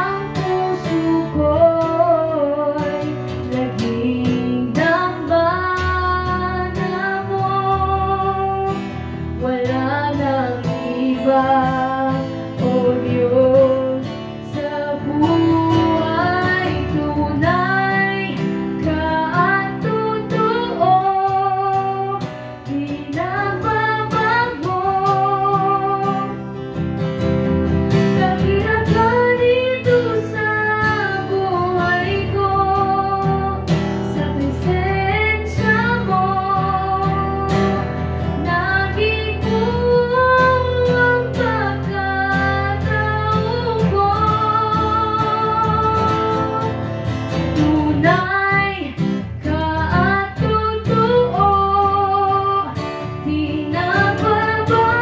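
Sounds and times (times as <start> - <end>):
strummed acoustic guitar: 0.0 - 55.0
woman singing: 0.0 - 55.0.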